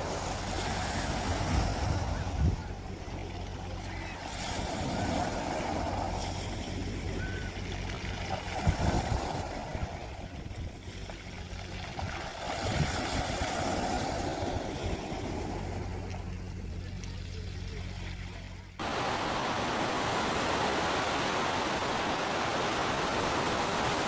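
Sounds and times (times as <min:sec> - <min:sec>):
sea waves washing in: 0:00.0 - 0:24.0.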